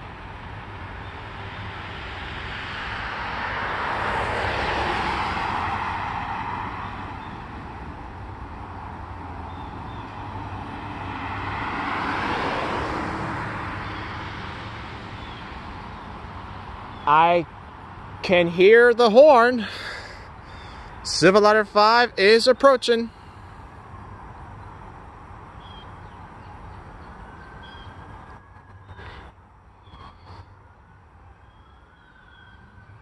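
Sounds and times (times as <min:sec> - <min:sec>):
cars driving past: 0:00.0 - 0:33.0.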